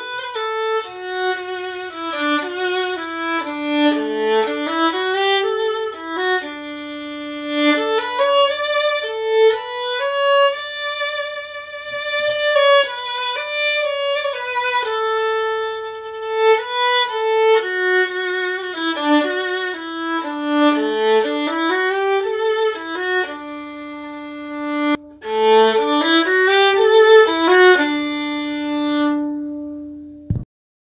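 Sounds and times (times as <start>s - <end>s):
solo violin hymn melody: 0.0s - 30.4s.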